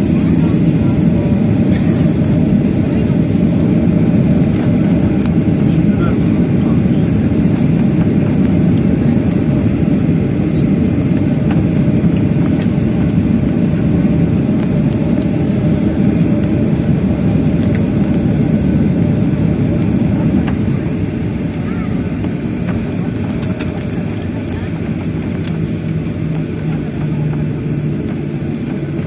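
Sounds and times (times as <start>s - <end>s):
jet engine and runway rumble: 0.0s - 29.0s.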